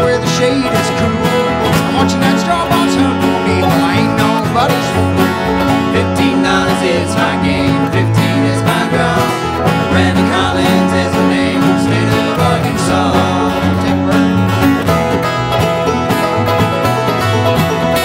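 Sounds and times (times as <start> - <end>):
acoustic guitars: 0.0 - 18.0
banjo: 0.0 - 18.0
mandolin: 0.0 - 18.0
upright bass: 0.0 - 18.0.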